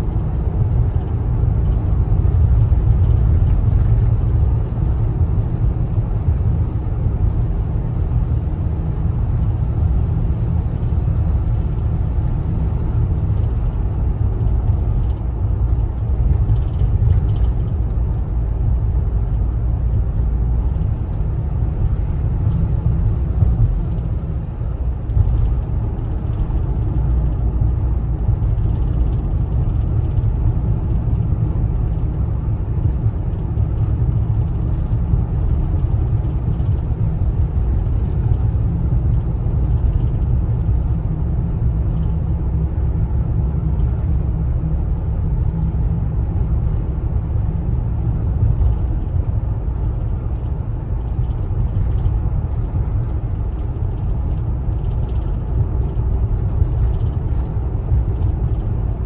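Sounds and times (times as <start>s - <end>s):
van cabin road rumble: 0.0s - 59.0s.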